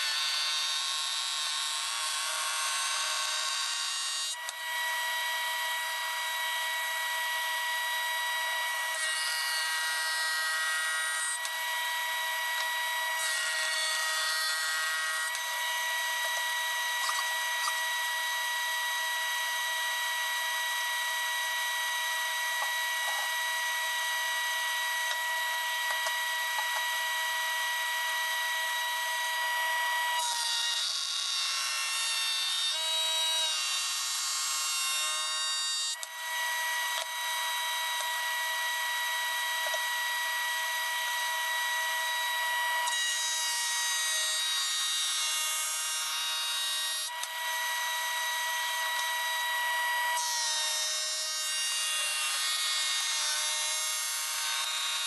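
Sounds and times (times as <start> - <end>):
electric jointer whine: 0.0 - 55.0.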